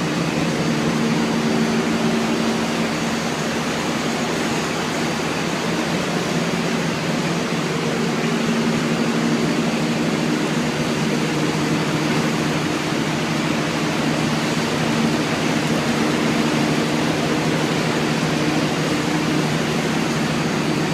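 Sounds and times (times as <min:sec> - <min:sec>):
machine hiss and hum: 0:00.0 - 0:20.9.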